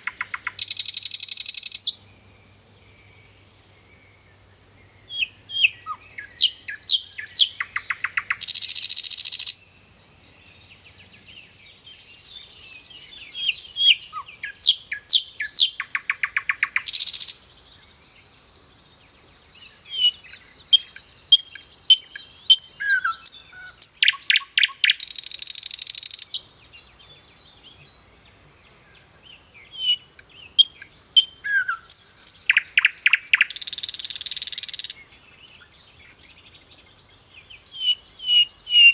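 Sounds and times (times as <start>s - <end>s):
bird song with chirps and trills: 0.0s - 38.9s.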